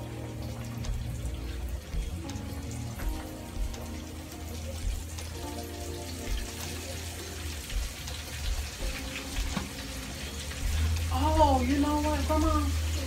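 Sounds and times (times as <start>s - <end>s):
deep-frying bubbling sizzle: 0.0s - 13.0s.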